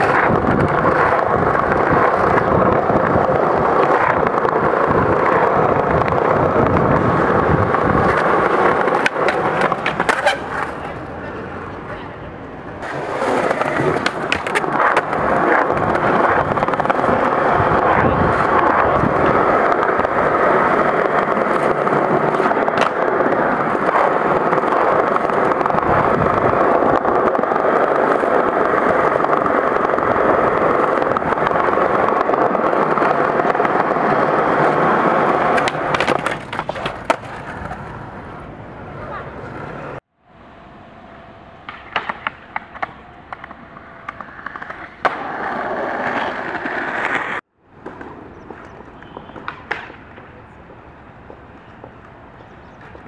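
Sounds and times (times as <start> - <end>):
skateboard clacks: 0.0 - 12.1, 12.8 - 40.0, 41.6 - 53.0
skateboard wheels rolling on stone: 0.0 - 53.0.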